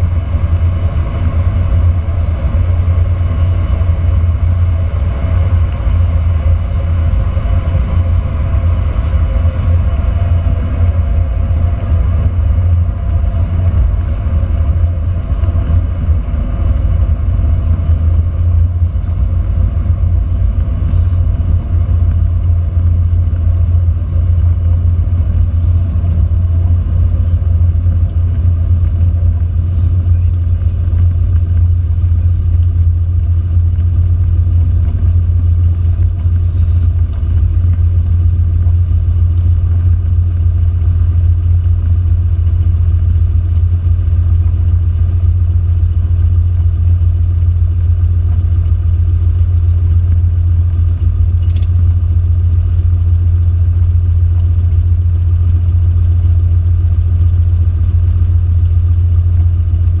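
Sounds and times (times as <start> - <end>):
propeller plane engine droning: 0.0 - 60.0.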